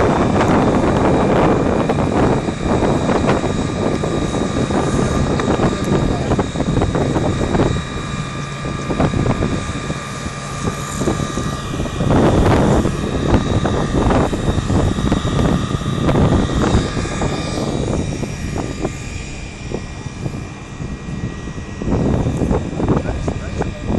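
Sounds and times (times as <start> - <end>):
engine and pump whining drone: 0.0 - 23.9
rush of noise: 0.0 - 23.9.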